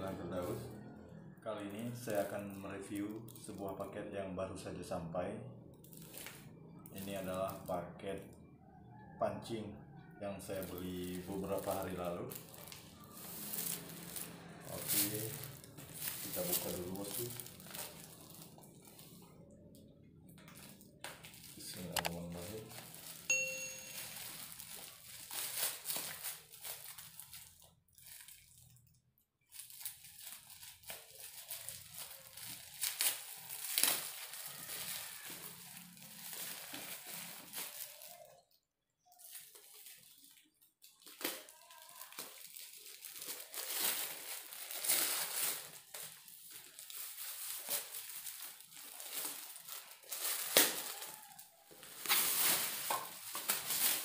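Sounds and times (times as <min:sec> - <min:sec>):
plastic wrapping crinkling: 0:01.9 - 0:04.2, 0:05.8 - 0:08.1, 0:10.4 - 0:54.0.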